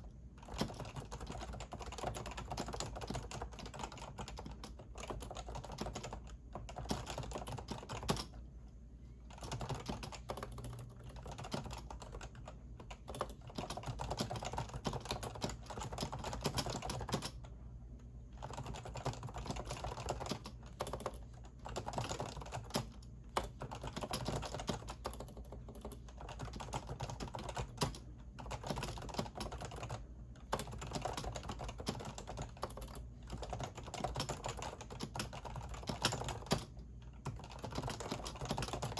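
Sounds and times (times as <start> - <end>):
keyboard typing: 0.4 - 8.4, 9.3 - 17.5, 18.4 - 38.9.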